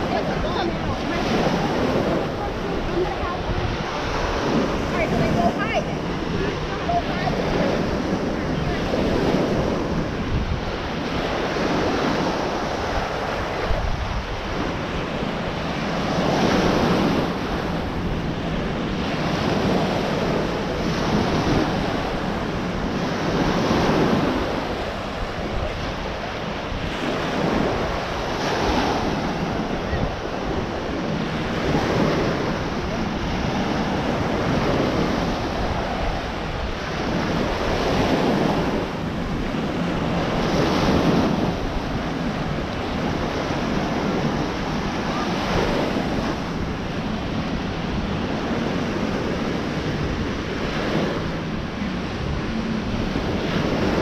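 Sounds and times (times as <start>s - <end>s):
small waves washing onto beach: 0.0s - 54.0s
wind buffeting microphone: 0.0s - 54.0s.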